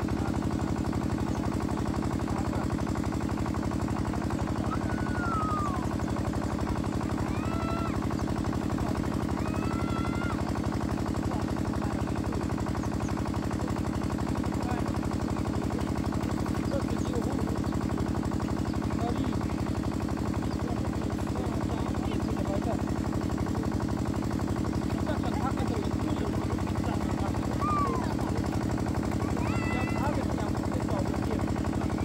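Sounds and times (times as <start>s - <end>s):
small engine chugging: 0.0s - 32.0s.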